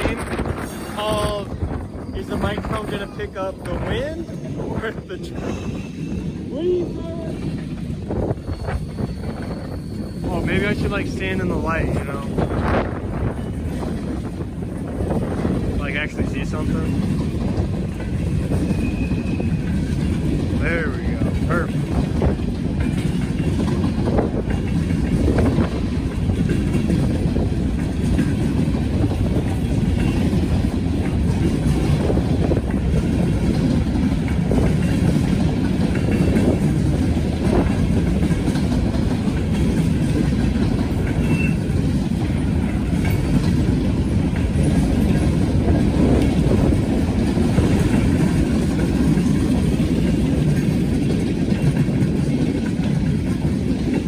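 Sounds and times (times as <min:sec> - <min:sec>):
freight train rumbling past: 0:00.0 - 0:54.0
wind buffeting microphone: 0:00.0 - 0:54.0.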